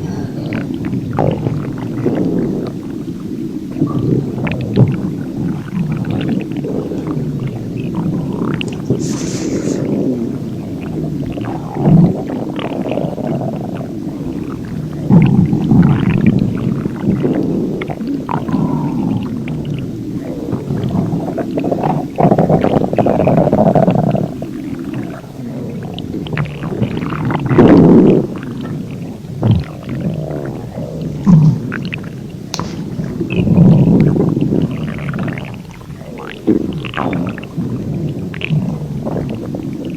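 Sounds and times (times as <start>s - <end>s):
stomach growling and gurgling: 0.0s - 39.9s.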